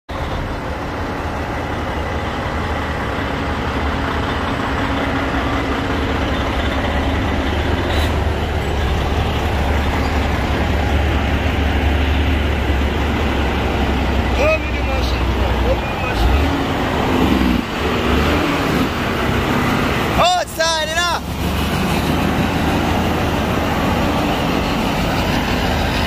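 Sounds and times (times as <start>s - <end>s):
diesel truck engine pulling uphill: 0.1s - 26.0s.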